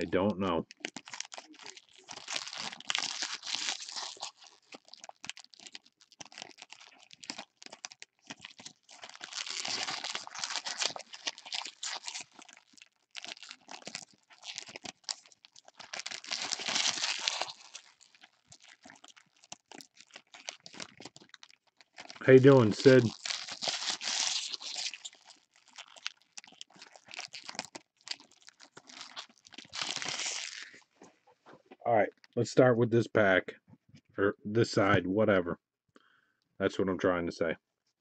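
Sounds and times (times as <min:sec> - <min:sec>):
foil wrappers crinkling and tearing: 0:00.0 - 0:31.0.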